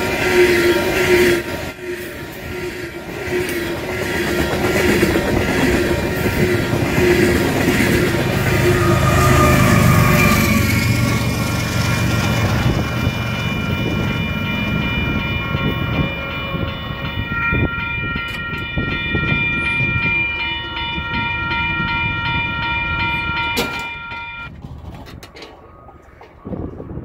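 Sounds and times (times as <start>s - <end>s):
crossing warning bell ringing: 0.0s - 24.5s
freight train rumbling past: 0.0s - 25.3s.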